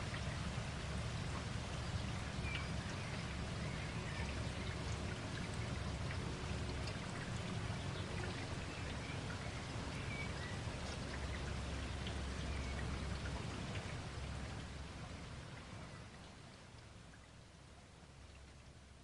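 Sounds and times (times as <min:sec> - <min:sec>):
raindrop patter: 0:00.0 - 0:19.0.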